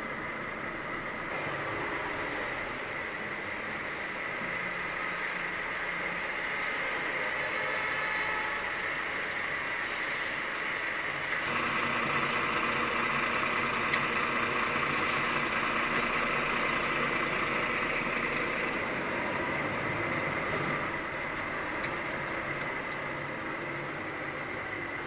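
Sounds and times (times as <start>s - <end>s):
lorry diesel engine running: 0.0s - 25.0s.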